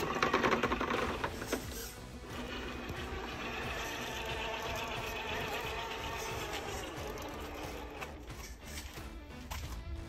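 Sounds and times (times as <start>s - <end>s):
toy truck rattling: 0.0s - 9.8s
electric motor and drivetrain whining: 0.0s - 10.0s.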